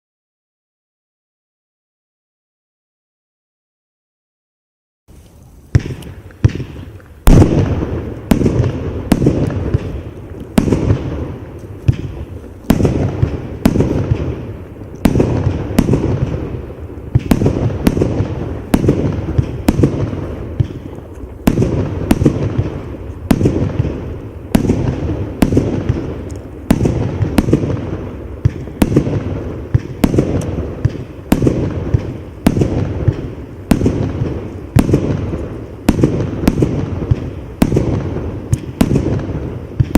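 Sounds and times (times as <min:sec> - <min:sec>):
firework bangs: 0:05.6 - 0:39.9.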